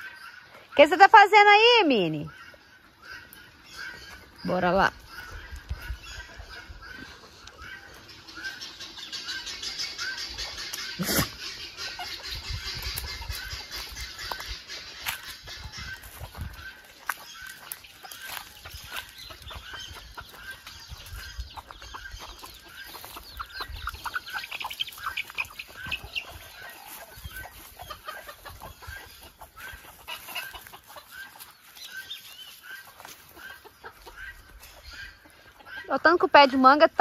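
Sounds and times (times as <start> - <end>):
chickens calling: 0.0 - 37.0.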